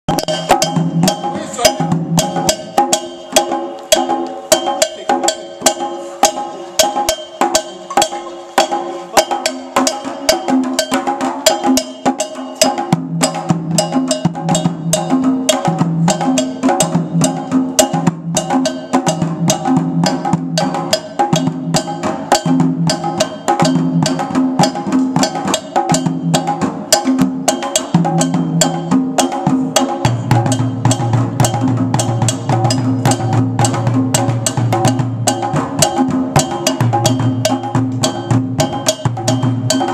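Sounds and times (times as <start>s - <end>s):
hand drums playing: 0.1s - 39.9s.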